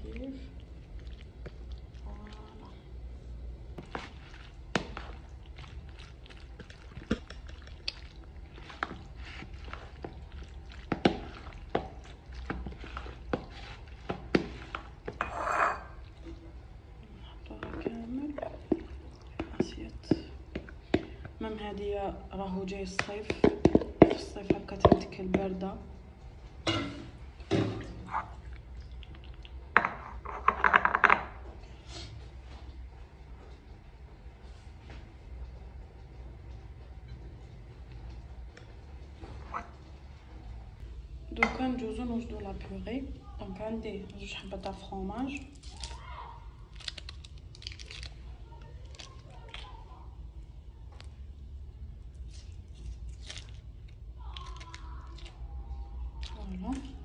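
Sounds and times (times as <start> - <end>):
soft squishing of pasta: 0.0 - 30.2, 31.6 - 57.0.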